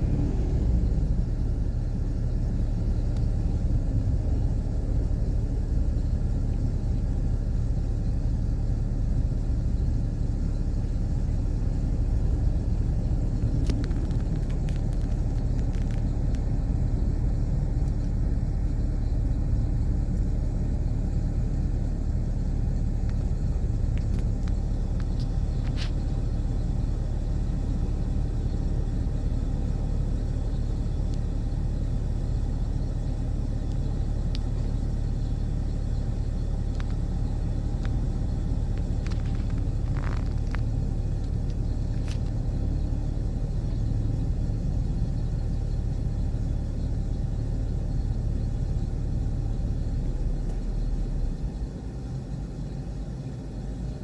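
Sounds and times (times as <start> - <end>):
excavator diesel engine rumble: 0.0 - 54.0.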